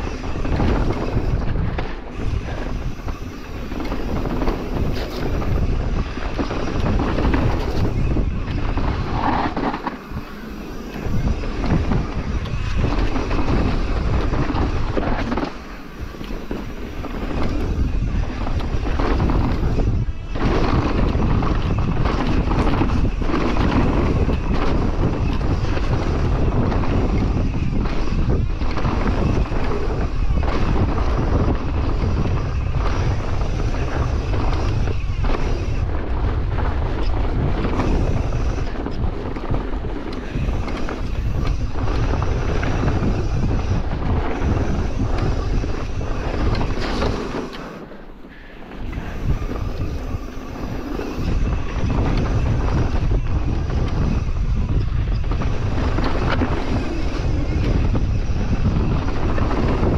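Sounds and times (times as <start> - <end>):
bike rattling: 0.0 - 59.9
bike tyres on dirt trail: 0.0 - 59.9
wind buffeting microphone: 0.0 - 59.9.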